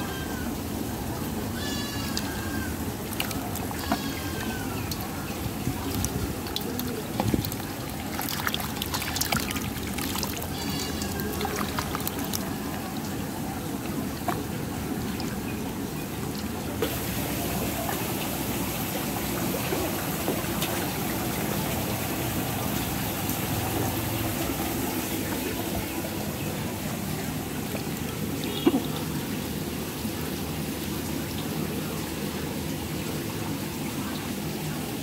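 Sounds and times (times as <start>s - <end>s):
water splashing and trickling: 0.0s - 35.0s.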